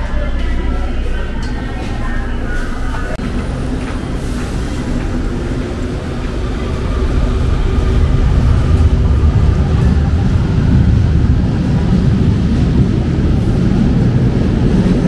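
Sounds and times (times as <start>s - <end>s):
light-rail train rumbling: 0.0s - 15.0s.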